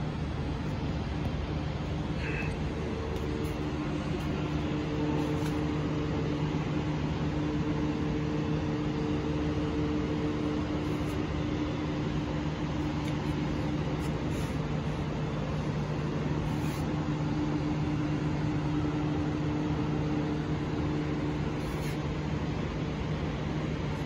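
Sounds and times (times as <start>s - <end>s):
mechanical hum with tones: 0.0s - 24.0s.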